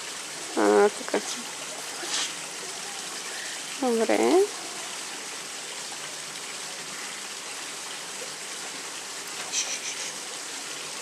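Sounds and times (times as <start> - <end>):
running water or rain: 0.0 - 11.0.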